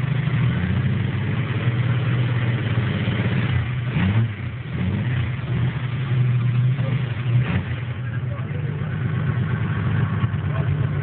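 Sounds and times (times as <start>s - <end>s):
engine rumbling and revving: 0.0s - 11.0s.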